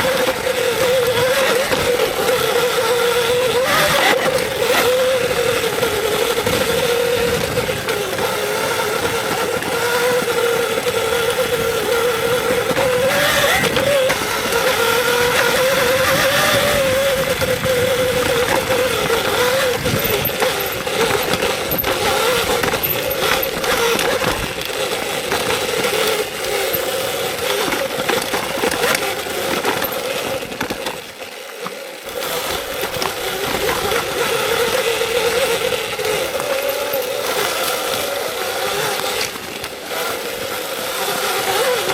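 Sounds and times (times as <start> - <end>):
bike rattling on rough ground: 0.0 - 41.9
electric motor whine: 0.0 - 41.9.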